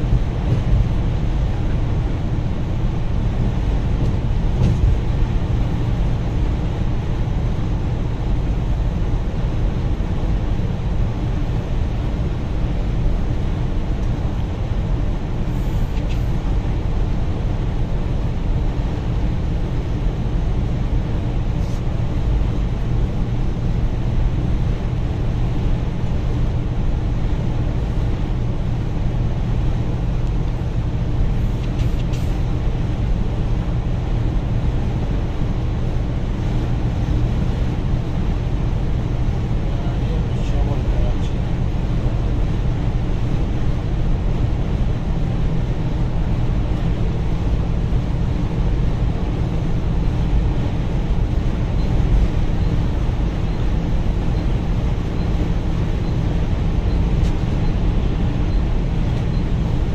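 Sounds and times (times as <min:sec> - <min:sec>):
bus engine drone: 0:00.0 - 0:59.9
road rumble: 0:00.0 - 0:59.9.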